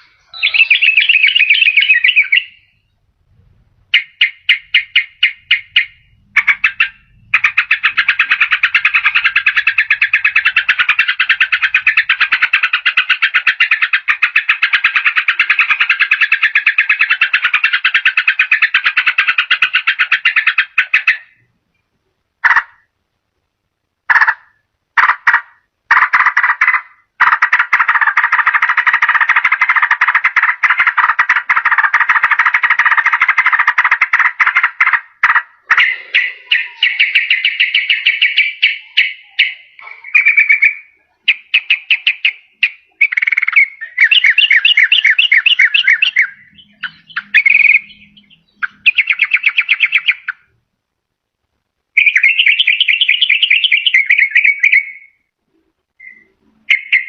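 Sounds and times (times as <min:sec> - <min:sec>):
bird chattering song: 0:00.0 - 0:03.0, 0:03.9 - 0:21.5, 0:24.2 - 0:50.6, 0:52.0 - 0:55.3, 0:56.0 - 0:57.0.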